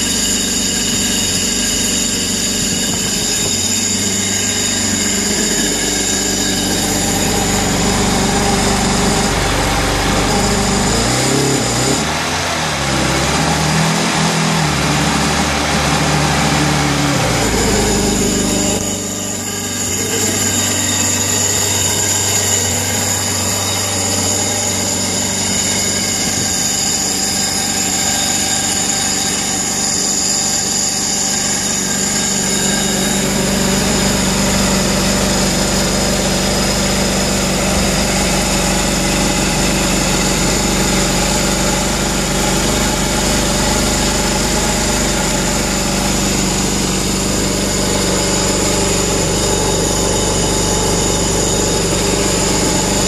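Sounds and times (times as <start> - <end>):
watercraft engine idling: 0.0 - 53.0.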